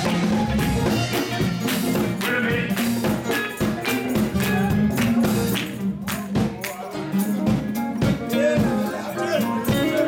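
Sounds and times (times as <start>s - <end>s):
church band playing: 0.0s - 10.0s
percussion hits: 0.0s - 10.0s.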